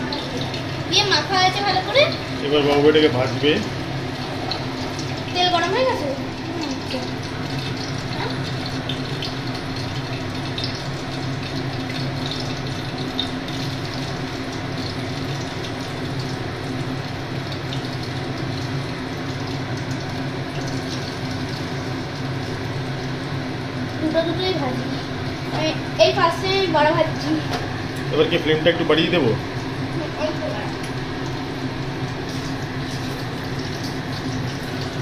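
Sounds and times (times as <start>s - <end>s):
hot oil sizzling: 0.0s - 35.0s.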